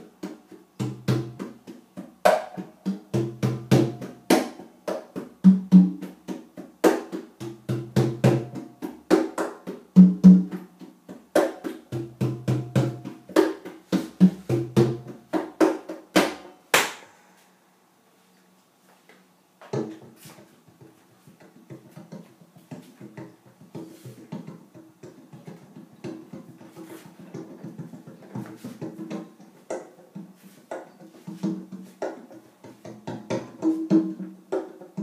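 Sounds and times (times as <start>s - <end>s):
congas played by hand: 0.0s - 17.4s, 19.6s - 35.0s.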